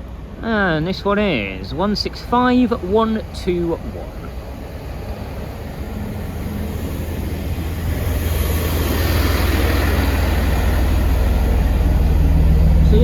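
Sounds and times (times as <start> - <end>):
low diesel train rumble: 0.0 - 13.0
noisy hiss: 0.0 - 13.0.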